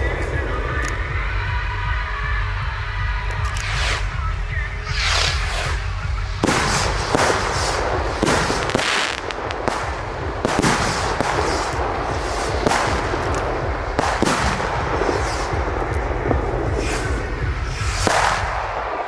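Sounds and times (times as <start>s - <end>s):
firework bangs: 0.0s - 19.0s
firework crackling: 0.0s - 19.0s
low rumble: 0.0s - 19.0s.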